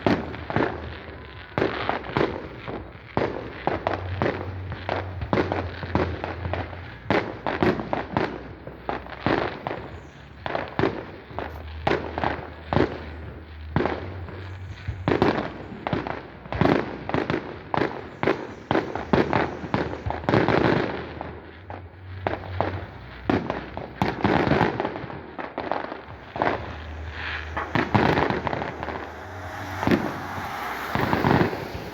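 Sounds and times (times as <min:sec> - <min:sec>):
fireworks bangs: 0:00.0 - 0:31.9.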